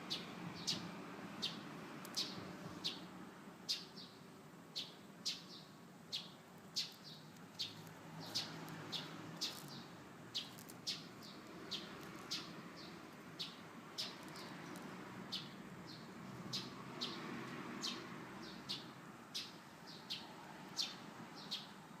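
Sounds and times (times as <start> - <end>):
small bird chirping: 0.0 - 4.2, 4.8 - 21.8.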